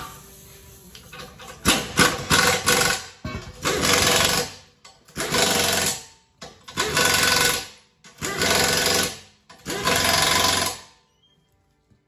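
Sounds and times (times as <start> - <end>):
pneumatic wrench rattling: 1.1 - 10.9.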